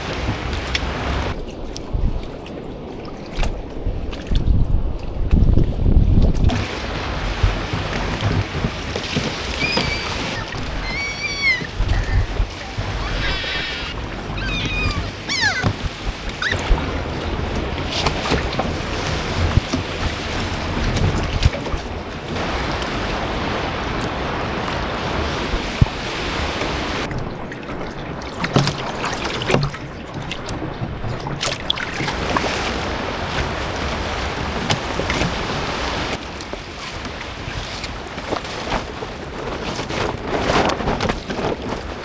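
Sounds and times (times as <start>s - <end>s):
sea waves splashing: 0.0s - 42.0s
wind buffeting microphone: 0.0s - 42.0s.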